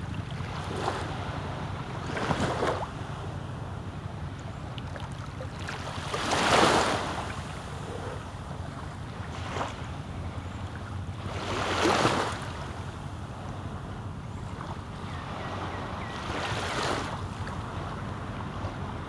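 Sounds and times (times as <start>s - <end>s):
small waves washing onto beach: 0.0s - 19.0s.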